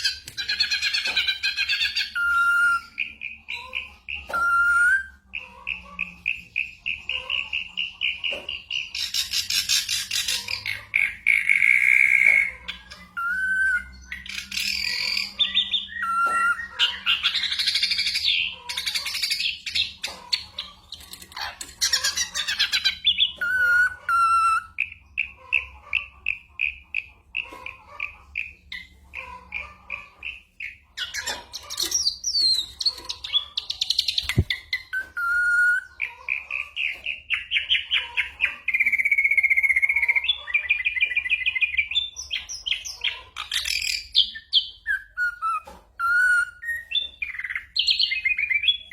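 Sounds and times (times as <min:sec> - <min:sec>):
bird singing with imitations: 0:00.0 - 0:48.9.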